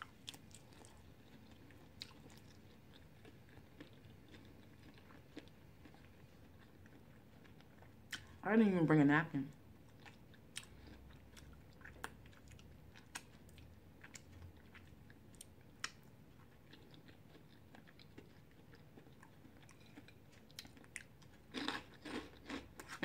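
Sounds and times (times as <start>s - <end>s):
faint chewing: 0.0s - 8.4s, 9.5s - 23.0s.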